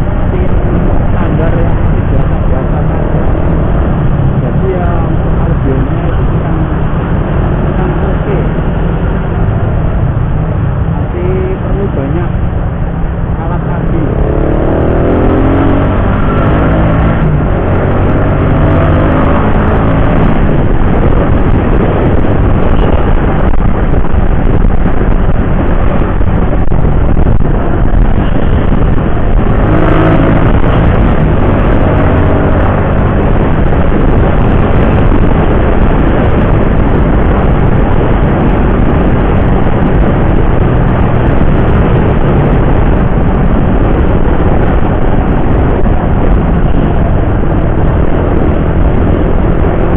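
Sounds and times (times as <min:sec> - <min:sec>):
motorcycle engine accelerating: 0:00.0 - 0:49.9
wind rushing over microphone: 0:00.0 - 0:49.9.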